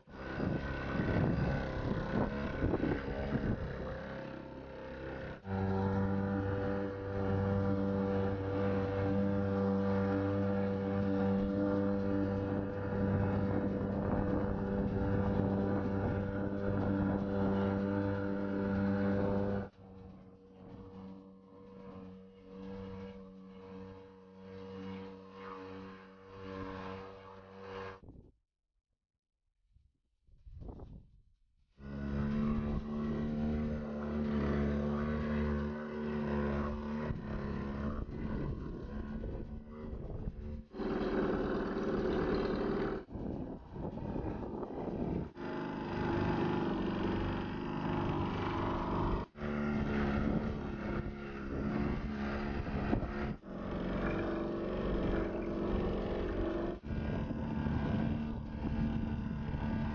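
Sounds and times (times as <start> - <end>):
outboard motor running: 0.1 - 27.7, 31.8 - 59.9.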